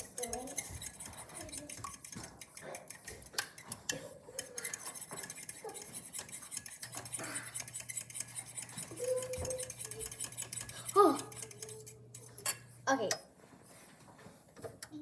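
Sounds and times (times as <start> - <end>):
utensil scraping mixing bowl: 0.0 - 12.8.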